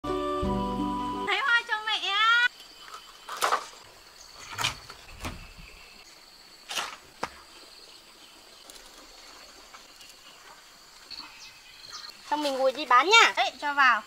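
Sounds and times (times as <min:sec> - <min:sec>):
high-pitched insect trill: 0:01.3 - 0:14.0.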